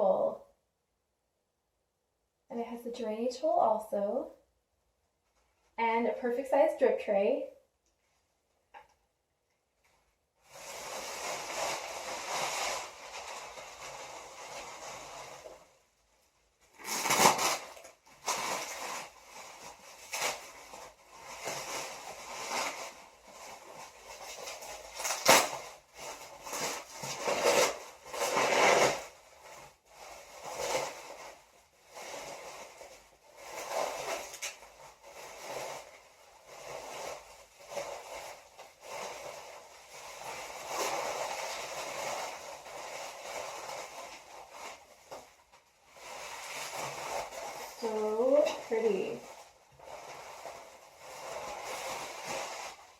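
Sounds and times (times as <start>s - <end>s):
packing material rustling: 9.8s - 52.9s.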